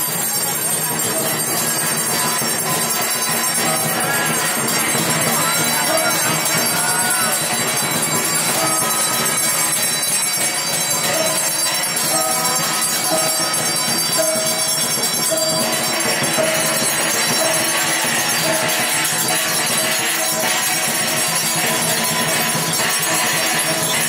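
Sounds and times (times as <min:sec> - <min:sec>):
bells and clashing percussion music: 0:00.0 - 0:24.0.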